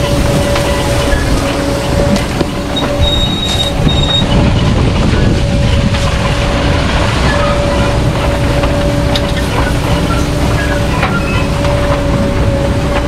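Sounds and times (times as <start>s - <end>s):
constant machine whine: 0.0s - 13.0s
harvester machine drone: 0.0s - 13.0s.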